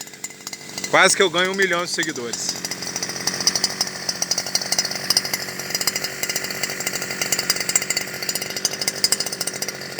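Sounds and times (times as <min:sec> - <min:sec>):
brush cutter engine running: 0:00.0 - 0:09.9.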